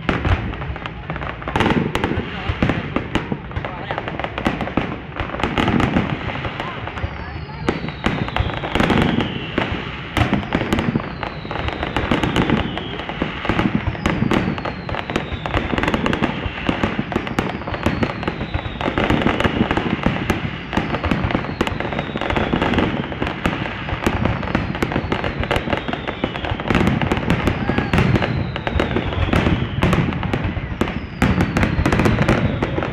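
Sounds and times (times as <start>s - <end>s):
fireworks bangs and crackles: 0.0s - 32.9s.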